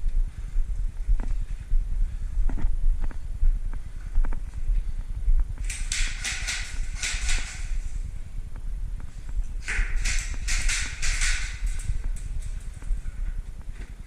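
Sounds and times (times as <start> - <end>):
crunching and rustling footsteps: 0.0 - 14.0.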